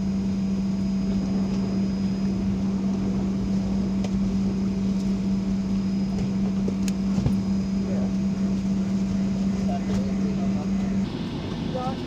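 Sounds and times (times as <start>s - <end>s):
aircraft cabin hum and air rush: 0.0s - 12.0s.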